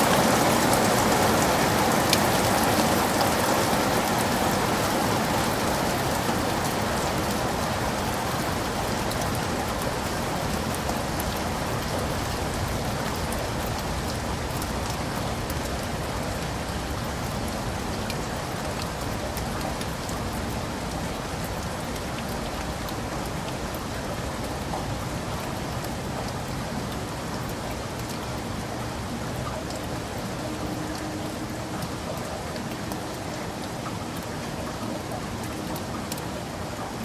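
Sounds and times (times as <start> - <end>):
heavy rain falling in forest: 0.0 - 37.0.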